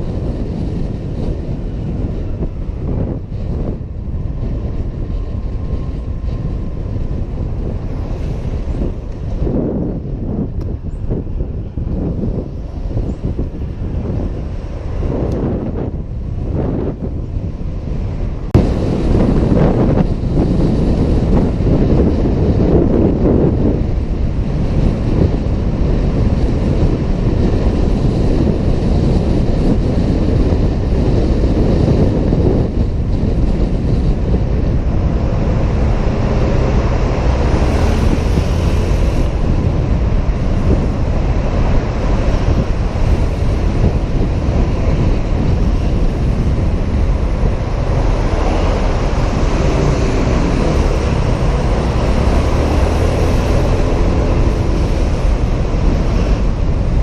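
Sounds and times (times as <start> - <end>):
road noise: 0.0 - 57.0
wind rushing over microphone: 0.0 - 57.0.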